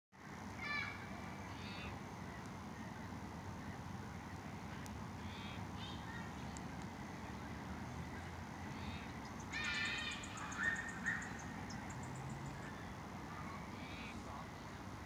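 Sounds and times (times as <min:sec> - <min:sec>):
faint outdoor hiss: 0:00.2 - 0:15.0
birds calling: 0:00.6 - 0:14.8.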